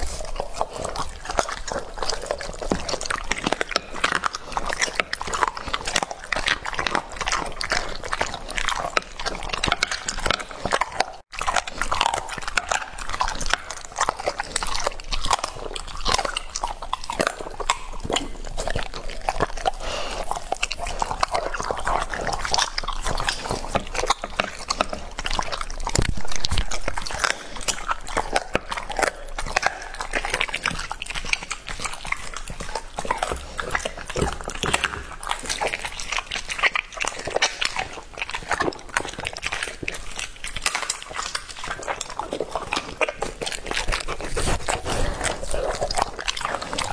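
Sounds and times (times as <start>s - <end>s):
dog chewing and crunching: 0.0s - 46.9s.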